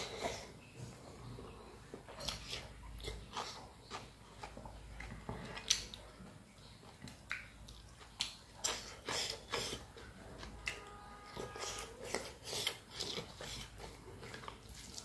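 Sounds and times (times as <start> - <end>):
chewing and mouth smacks: 1.9 - 15.0.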